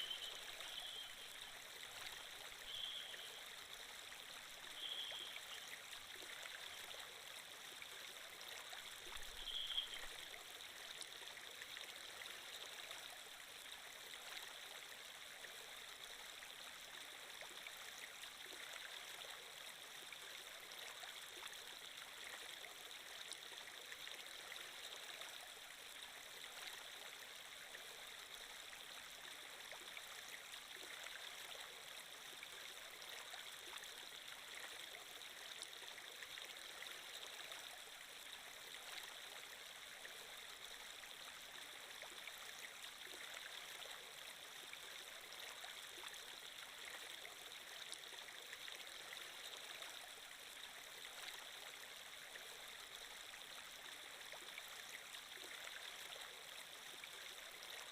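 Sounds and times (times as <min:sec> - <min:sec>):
stream flowing: 0:00.0 - 0:57.9.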